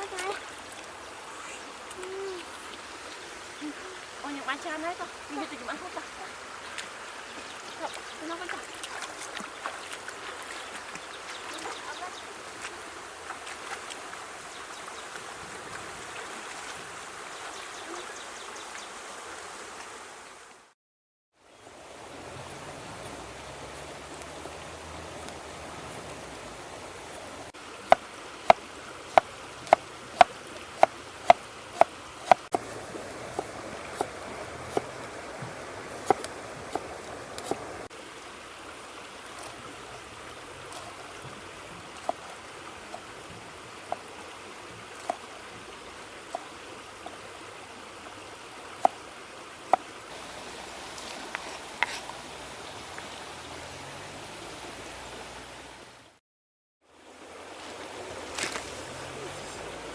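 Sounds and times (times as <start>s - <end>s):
river water rushing: 0.0s - 18.4s, 21.4s - 56.2s, 56.9s - 59.9s.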